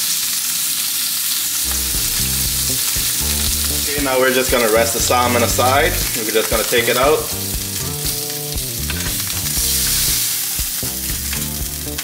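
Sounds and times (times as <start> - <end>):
oil sizzling in a grill pan: 0.0 - 12.0.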